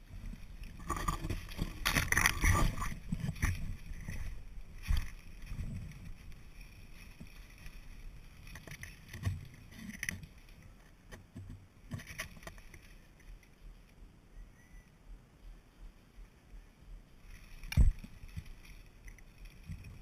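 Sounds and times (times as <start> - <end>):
rustling through undergrowth: 0.0 - 14.1, 15.7 - 20.0.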